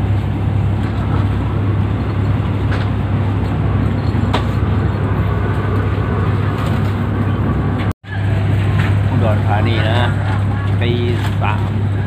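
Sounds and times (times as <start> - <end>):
diesel railcar drone: 0.0 - 12.0.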